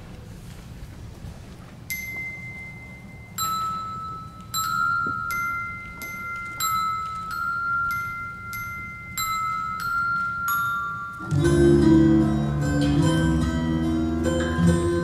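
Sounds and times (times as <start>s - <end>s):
ringing glockenspiel-like bell notes: 1.9s - 15.0s.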